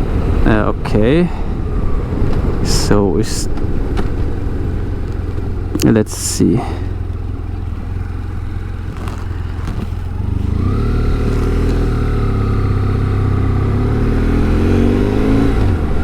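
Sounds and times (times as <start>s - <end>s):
motorcycle engine accelerating: 1.4s - 16.0s.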